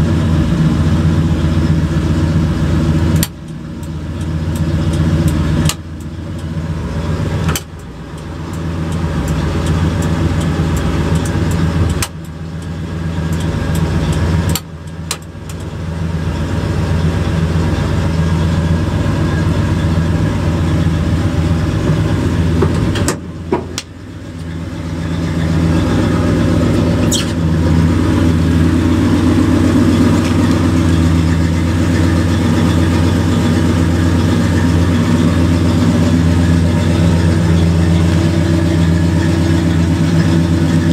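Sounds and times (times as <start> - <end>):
engine running inside cab: 0.0 - 40.9.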